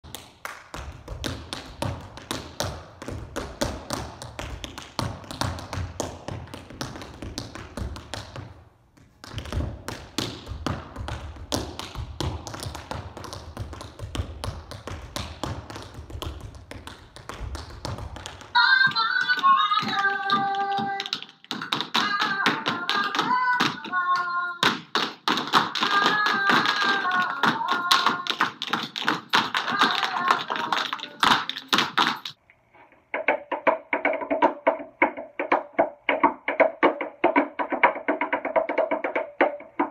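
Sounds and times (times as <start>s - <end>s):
tap shoes on wooden floor: 0.7s - 32.4s, 33.1s - 39.9s.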